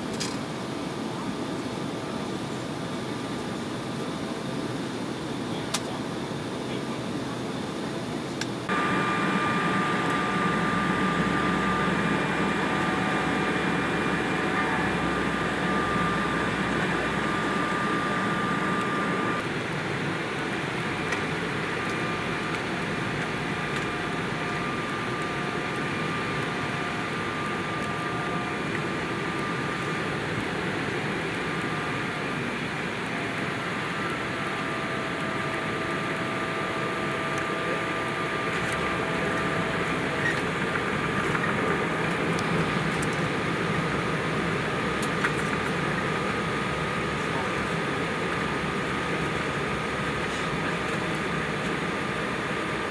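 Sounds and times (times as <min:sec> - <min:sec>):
jet engine whine: 0:00.0 - 0:52.9.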